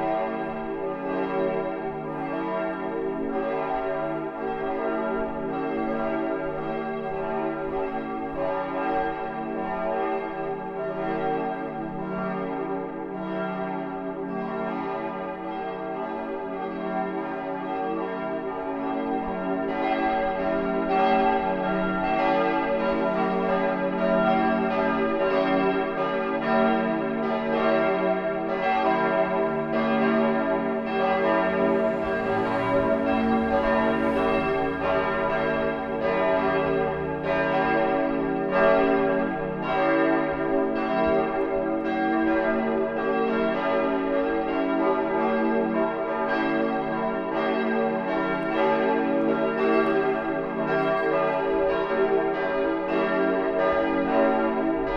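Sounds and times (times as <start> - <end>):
church bells pealing: 0.0 - 54.9.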